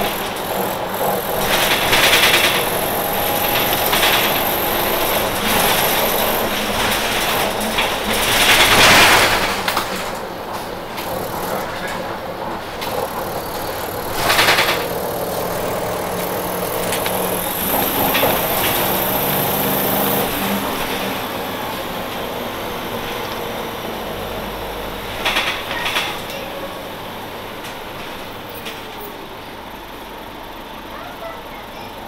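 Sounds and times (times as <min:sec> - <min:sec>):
bus engine droning and rattling: 0:00.0 - 0:32.0.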